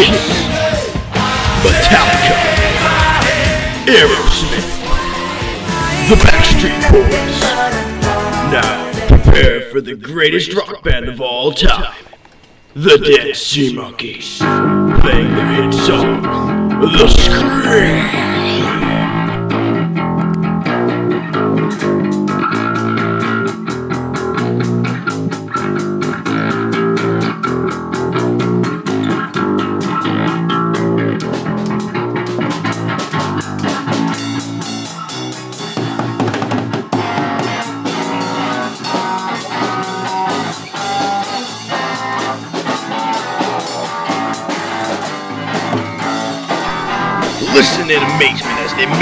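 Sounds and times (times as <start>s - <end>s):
rock music with guitars and drums: 0.0s - 9.6s, 14.4s - 49.0s.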